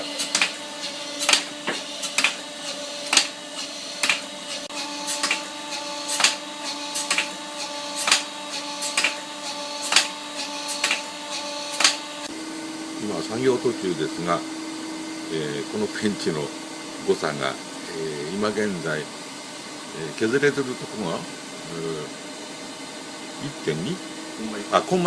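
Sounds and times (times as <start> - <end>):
grinding machine hum: 0.0 - 25.0.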